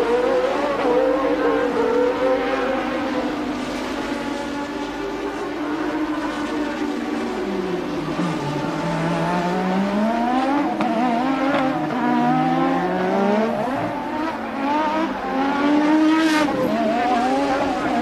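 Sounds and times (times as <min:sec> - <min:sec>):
race car engines accelerating: 0:00.0 - 0:18.0.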